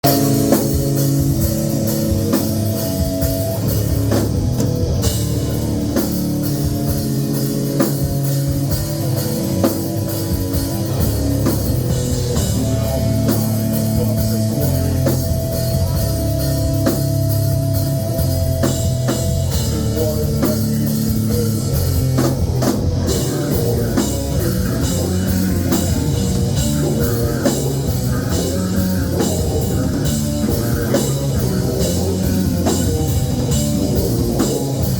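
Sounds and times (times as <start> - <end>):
drum kit hitting: 0.0 - 34.9
electric guitar sustained notes: 0.0 - 34.9.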